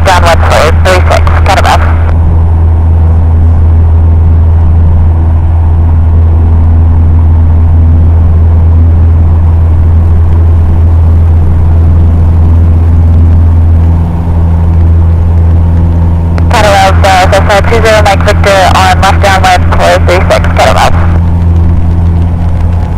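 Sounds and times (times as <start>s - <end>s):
airplane engine and propeller drone: 0.0s - 22.9s.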